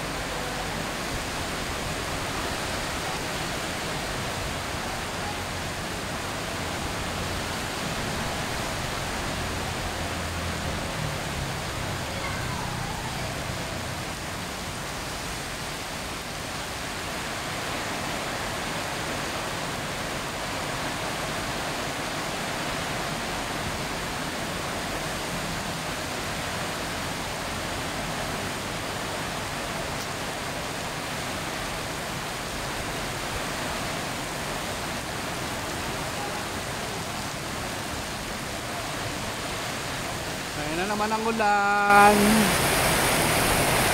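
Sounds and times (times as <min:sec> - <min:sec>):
heavy rain on road: 0:00.0 - 0:43.9.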